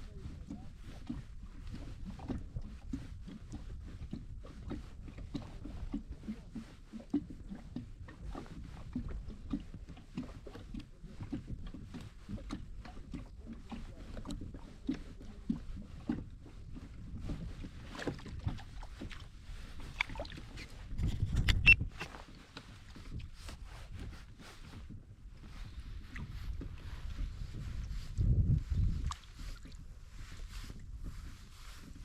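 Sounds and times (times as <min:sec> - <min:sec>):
water lapping against hull: 0:00.0 - 0:32.0.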